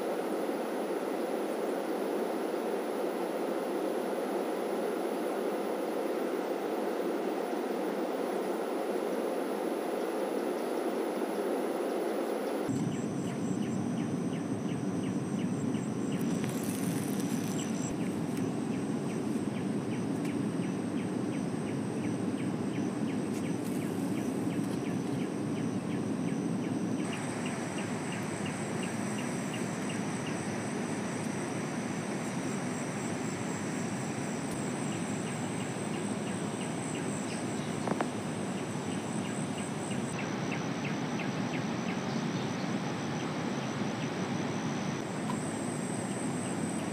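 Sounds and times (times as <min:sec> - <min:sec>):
cricket-like chirping: 0:00.0 - 0:46.9
insects droning: 0:00.0 - 0:46.9.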